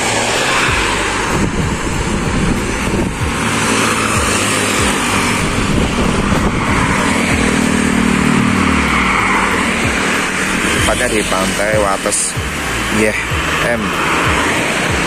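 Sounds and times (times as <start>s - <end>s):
car road noise: 0.0s - 15.0s
motorcycle engine passing: 0.0s - 15.0s.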